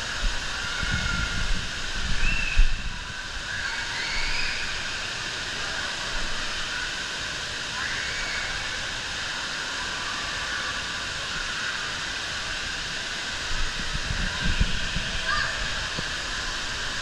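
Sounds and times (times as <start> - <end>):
distant crowd voices: 0.0 - 17.0
running and splashing water: 0.0 - 17.0.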